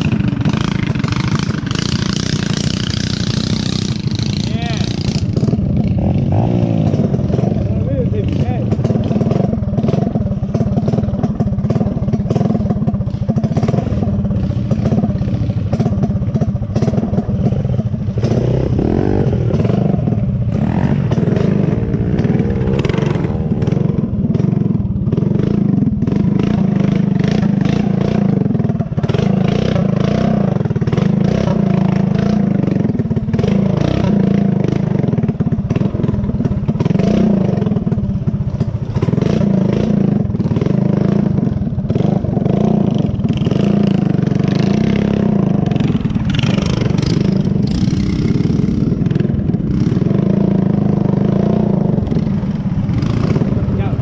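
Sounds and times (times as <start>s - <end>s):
off-road engine revving: 0.0s - 54.0s.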